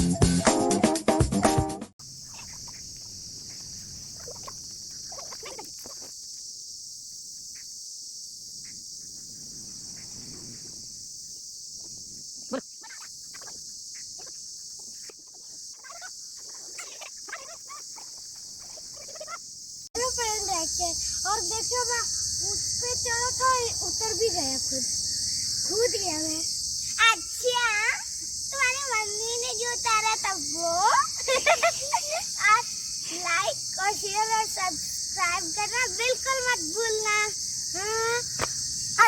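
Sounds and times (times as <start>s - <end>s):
insects chorus: 2.0s - 39.0s.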